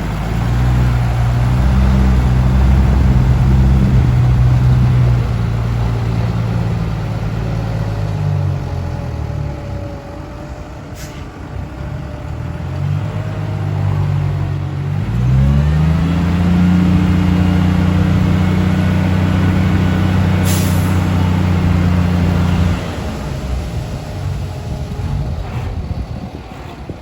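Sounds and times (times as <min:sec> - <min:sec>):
diesel truck engine revving: 0:00.0 - 0:27.0.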